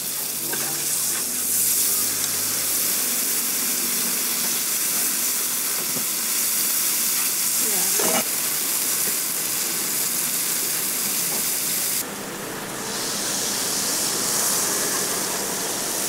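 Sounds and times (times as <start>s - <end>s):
burger patties sizzling on griddle: 0.0s - 16.0s.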